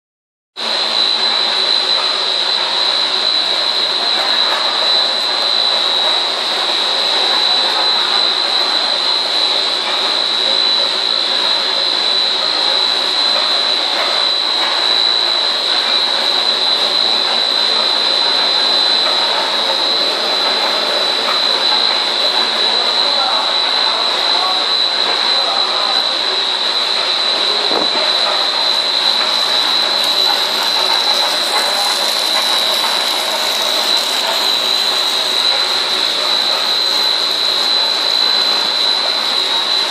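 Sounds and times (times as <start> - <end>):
electric motors running: 0.6 - 39.9
high-pitched machine whine: 0.6 - 39.9.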